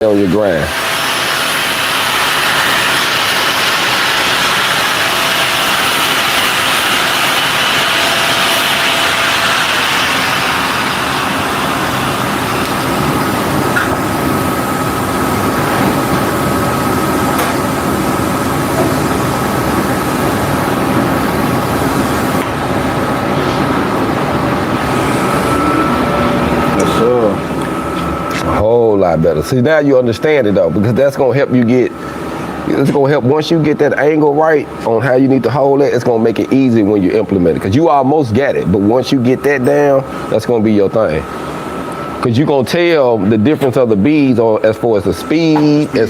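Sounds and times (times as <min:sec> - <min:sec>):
welding arc hiss and buzz: 0:00.0 - 0:46.0.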